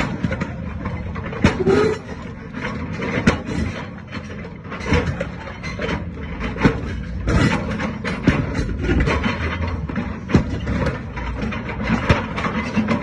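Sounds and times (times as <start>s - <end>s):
excavator engine rumble: 0.0s - 13.0s
steel scraping and cracking concrete: 0.0s - 13.0s.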